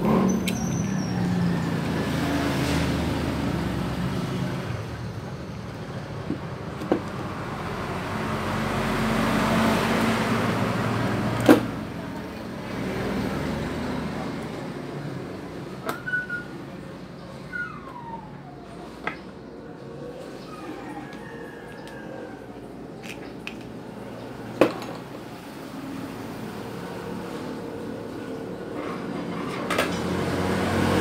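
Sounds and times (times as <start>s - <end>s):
vehicle engine noise: 0.0s - 31.0s.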